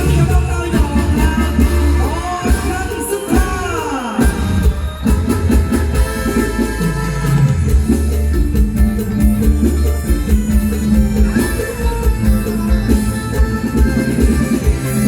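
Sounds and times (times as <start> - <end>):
bass and drum beat: 0.0 - 15.0
live band music: 0.0 - 15.0
sliding amplified melody: 0.0 - 15.0.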